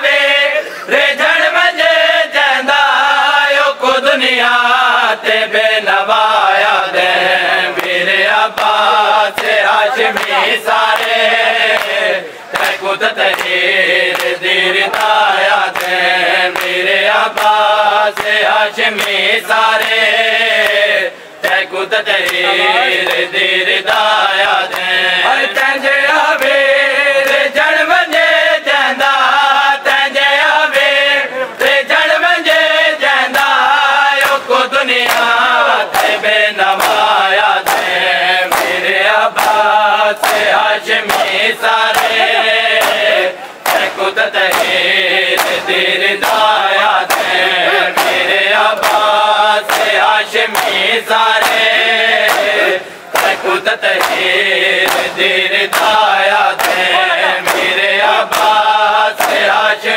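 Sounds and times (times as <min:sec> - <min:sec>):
men chanting: 0:00.0 - 0:59.9
crowd slapping chests: 0:05.0 - 0:59.9.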